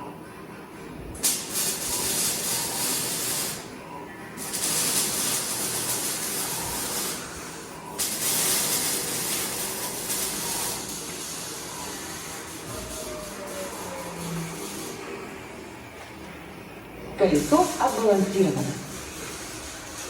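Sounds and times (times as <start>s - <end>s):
fan impeller air rush: 0.7s - 20.0s.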